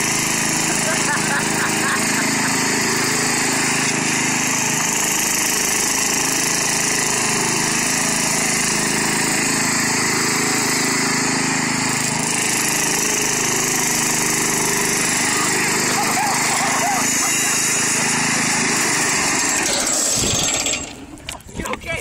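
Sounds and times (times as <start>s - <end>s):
riding lawn mower engine: 0.0s - 21.5s.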